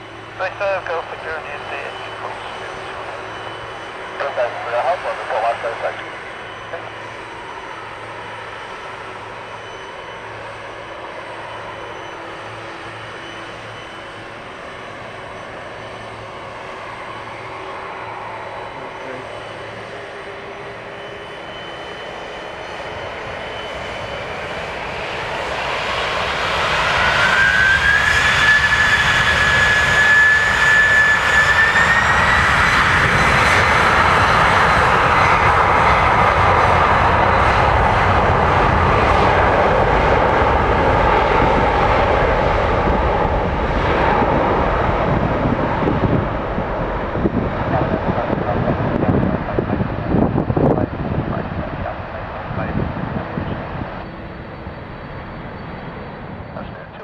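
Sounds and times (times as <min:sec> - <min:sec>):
high engine whine: 0:00.0 - 0:57.0
jet engines humming: 0:00.0 - 0:57.0.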